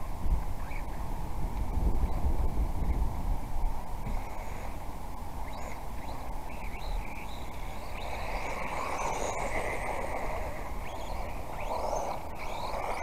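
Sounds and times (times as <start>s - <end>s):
rc car rumbling and rattling: 0.0s - 13.0s.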